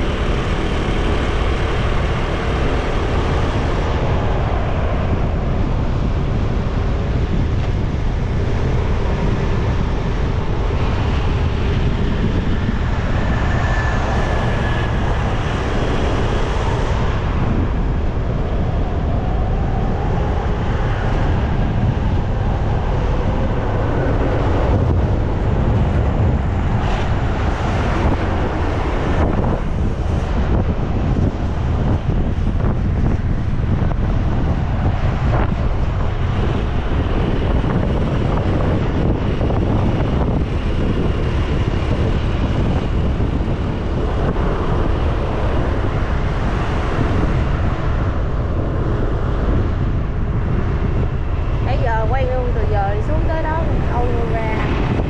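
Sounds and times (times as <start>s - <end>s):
road and vehicle noise: 0.0s - 55.0s
wind rush on microphone: 0.0s - 55.0s.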